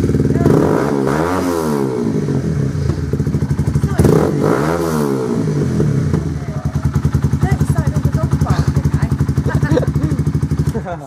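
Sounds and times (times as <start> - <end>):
loud motorcycle engine revving: 0.0 - 11.0.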